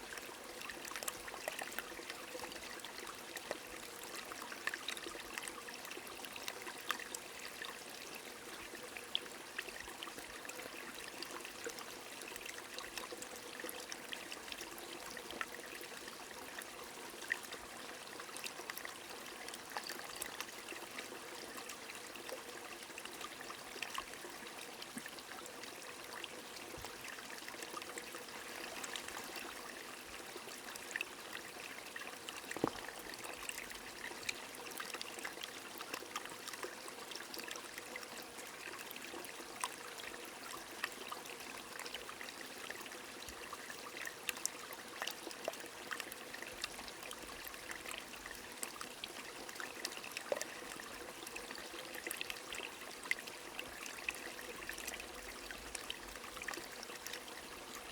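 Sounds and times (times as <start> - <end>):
stream trickling: 0.0 - 57.9.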